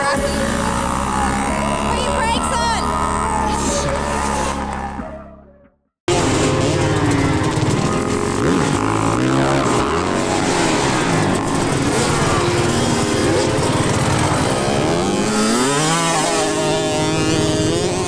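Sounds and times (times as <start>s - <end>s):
dirt bike engines revving: 0.0s - 5.3s, 6.1s - 18.0s.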